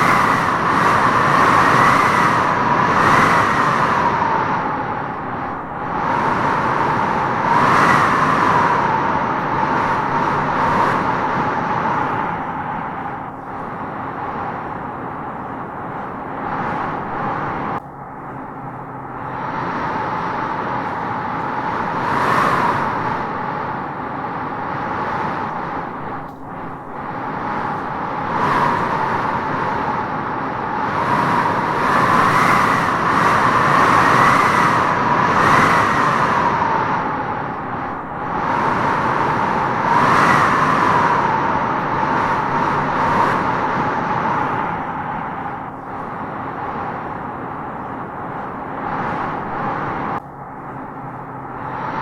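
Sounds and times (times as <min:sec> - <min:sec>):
howling wind gusting through trees: 0:00.0 - 0:52.0.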